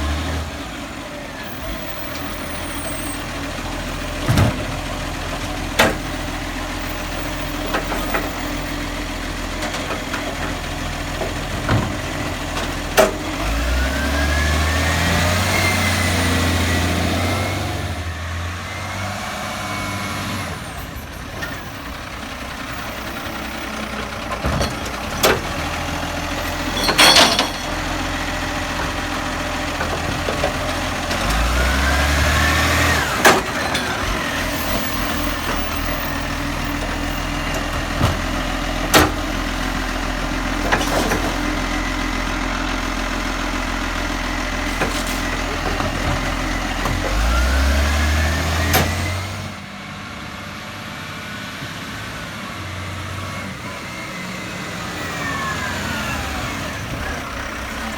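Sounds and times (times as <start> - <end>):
truck engine idling and revving: 0.0 - 57.9.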